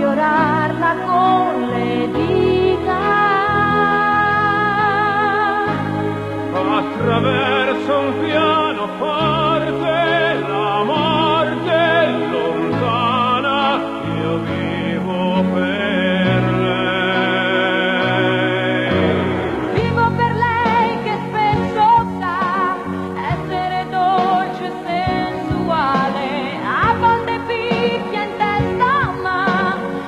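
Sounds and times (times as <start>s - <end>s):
pop-operatic ballad music: 0.0s - 30.0s.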